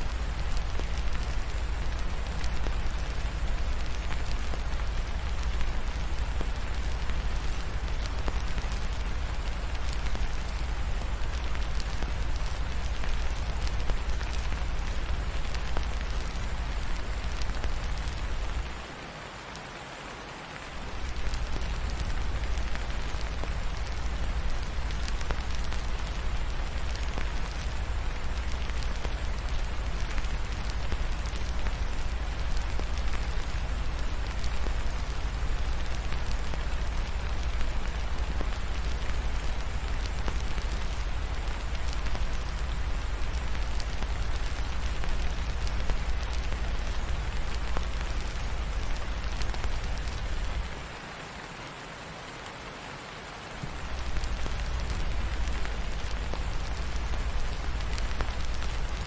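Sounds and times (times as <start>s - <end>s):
fireplace crackling: 0.0s - 19.5s, 20.5s - 51.0s, 53.6s - 59.0s
steady rain: 0.0s - 59.0s.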